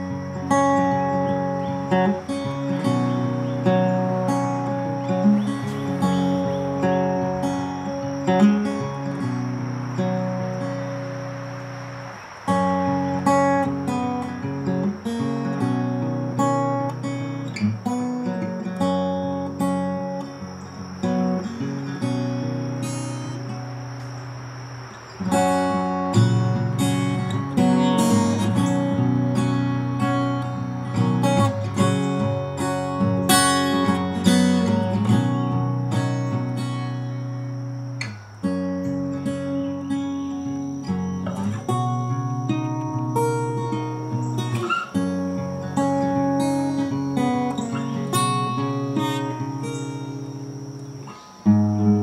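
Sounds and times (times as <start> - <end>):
acoustic guitar chords: 0.0 - 52.0.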